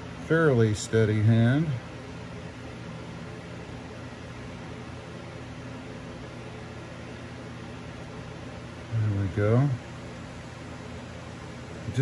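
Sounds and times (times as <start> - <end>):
low room hum and hiss: 0.0 - 12.0.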